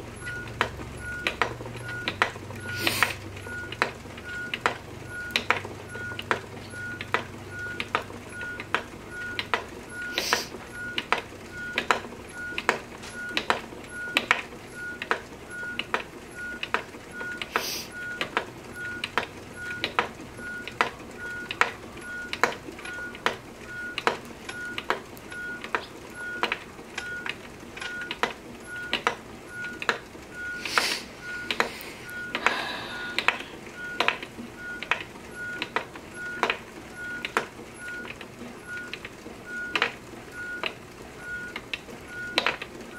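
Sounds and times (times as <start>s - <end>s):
spinning wheel clicking and squeaking: 0.0s - 32.4s, 33.2s - 42.9s.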